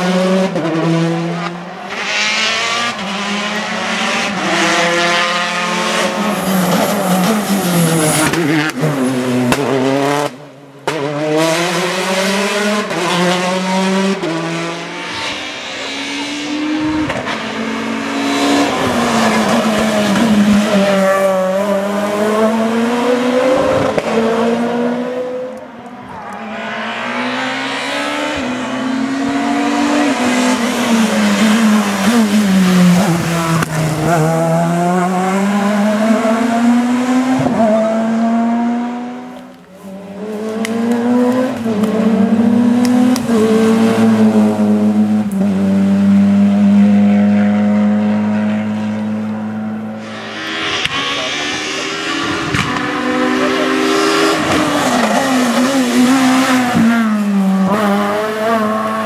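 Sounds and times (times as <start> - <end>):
rally cars passing revving: 0.0 - 59.0.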